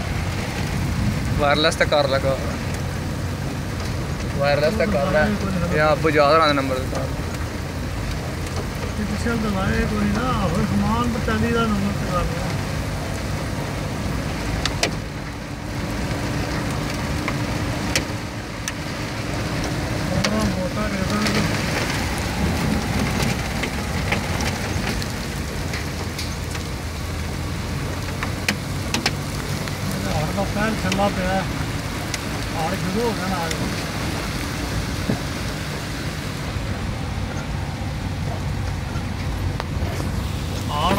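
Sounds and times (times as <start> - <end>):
low engine hum: 0.0 - 40.9
wind and road noise: 0.0 - 40.9.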